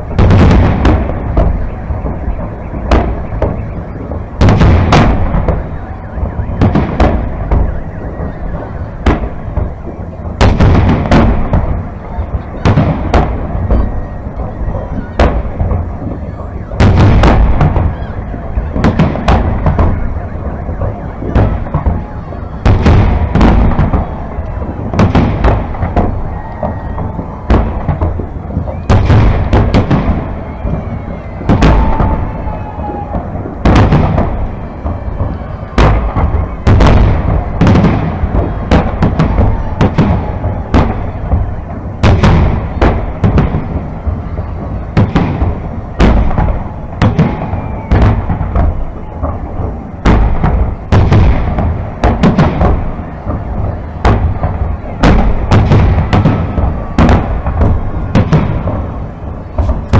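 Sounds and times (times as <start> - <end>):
firework bangs: 0.0 - 59.9.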